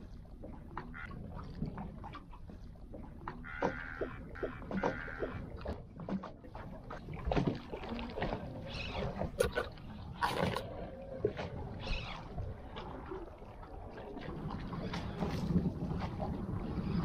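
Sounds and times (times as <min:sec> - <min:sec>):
water splashing against boat hull: 0:00.0 - 0:17.0.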